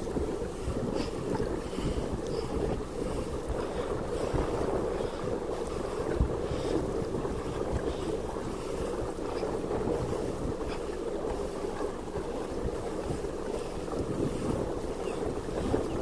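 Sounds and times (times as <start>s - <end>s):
wind noise on microphone: 0.0s - 10.8s, 11.8s - 16.0s.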